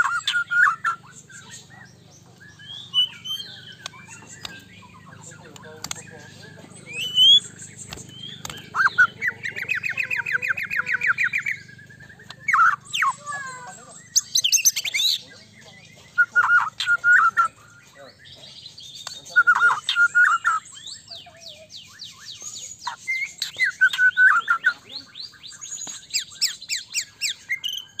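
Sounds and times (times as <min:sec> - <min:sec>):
songbird whistling: 0:00.0 - 0:28.0.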